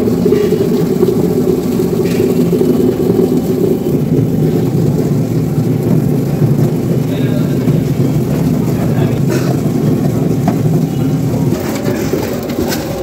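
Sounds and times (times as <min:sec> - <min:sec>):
potatoes churning in peeler drum: 0:00.0 - 0:13.0.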